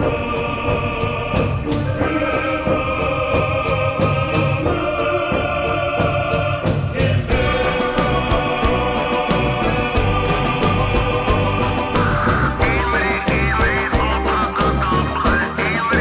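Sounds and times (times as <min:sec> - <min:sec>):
choir-like singing: 0:00.0 - 0:16.0
steady beat: 0:00.0 - 0:16.0.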